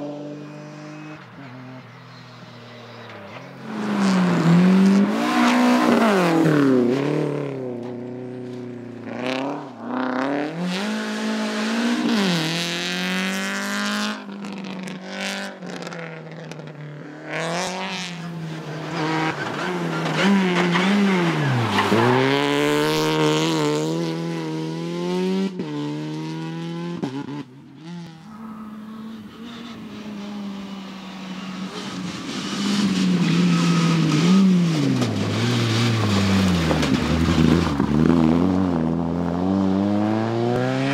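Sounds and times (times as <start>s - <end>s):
rally car engine revving: 0.0s - 40.9s.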